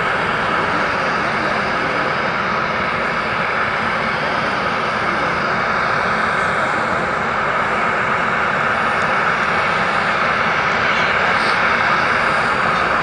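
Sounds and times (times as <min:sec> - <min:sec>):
aircraft engines running: 0:00.0 - 0:13.0.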